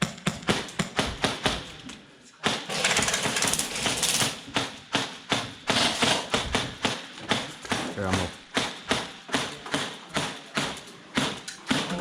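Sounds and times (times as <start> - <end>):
airsoft guns firing: 0.0 - 1.8, 2.4 - 12.0.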